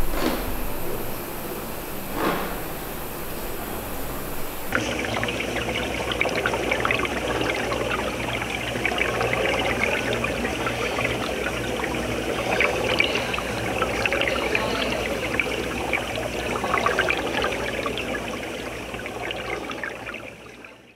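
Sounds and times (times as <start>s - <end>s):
low steady hum: 0.0s - 20.9s
water splashing and bubbling: 0.0s - 20.9s.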